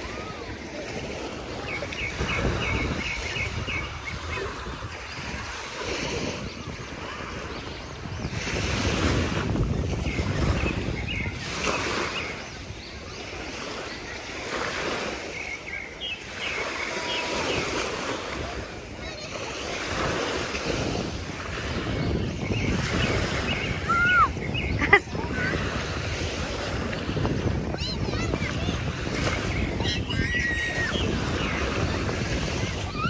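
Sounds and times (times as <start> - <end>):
sea waves washing onto beach: 0.0 - 33.0
wind buffeting microphone: 0.0 - 33.0.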